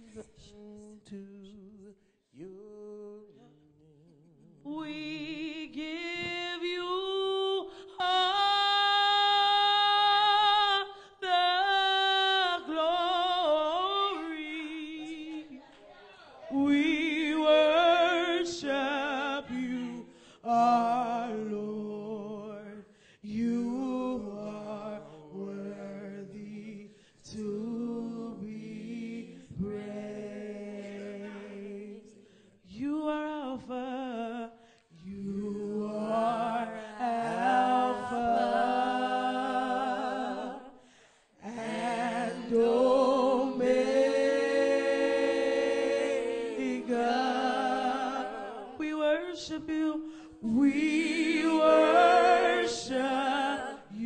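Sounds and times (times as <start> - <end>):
gospel group singing: 4.6 - 54.0.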